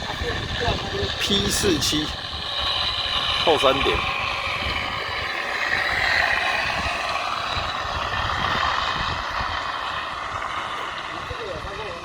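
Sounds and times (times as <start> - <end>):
simulated piston aircraft engine: 0.0 - 12.0
wind rumbling on microphone: 0.0 - 12.0.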